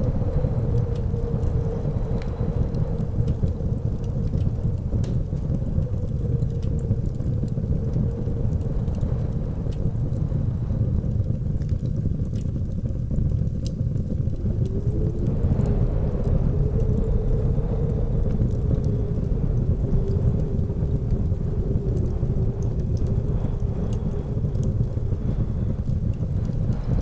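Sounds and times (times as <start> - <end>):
blizzard wind howling: 0.0 - 27.0
wood fire crackling: 0.0 - 27.0.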